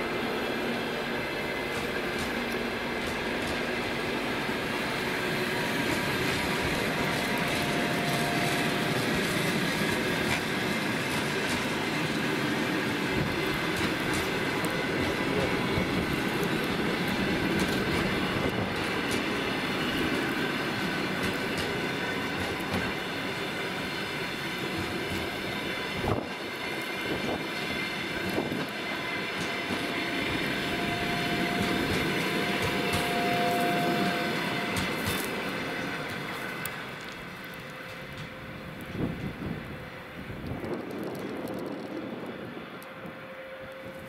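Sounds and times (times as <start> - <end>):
train wheels rumbling on rails: 0.0 - 44.0
wheels clicking over rail joints: 1.6 - 4.4, 5.8 - 29.9, 34.4 - 43.1.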